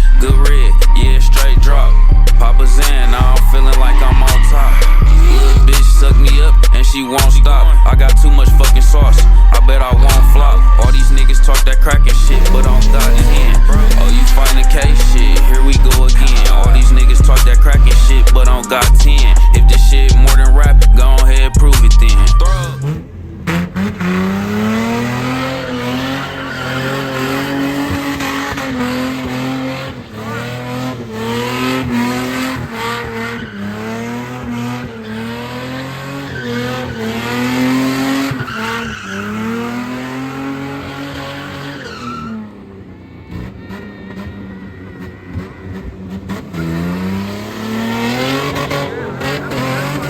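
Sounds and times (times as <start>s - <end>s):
tyres squealing: 0.0s - 24.3s, 24.9s - 28.9s, 31.8s - 40.3s, 41.2s - 47.1s
car engine revving hard: 0.0s - 50.0s.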